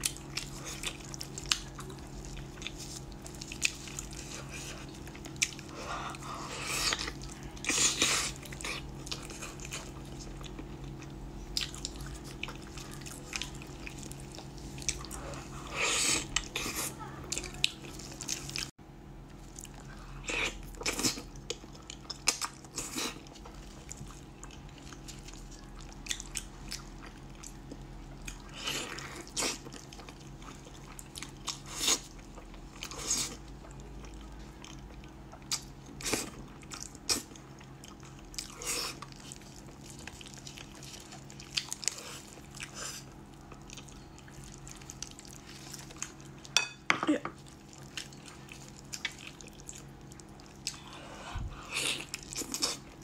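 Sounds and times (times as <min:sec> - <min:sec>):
person chewing: 0:00.0 - 0:18.7, 0:19.3 - 0:53.0
steady low hum: 0:00.0 - 0:53.0.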